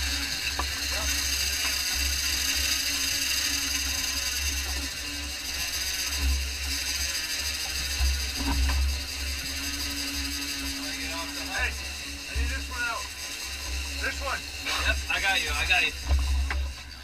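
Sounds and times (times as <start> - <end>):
fishing reel drag whirring: 0.0 - 17.0.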